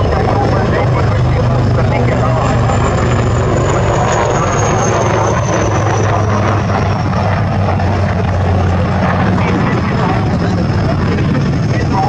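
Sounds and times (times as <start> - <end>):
helicopter rotor and engine noise: 0.0 - 12.0
high turbine whine: 0.0 - 12.0.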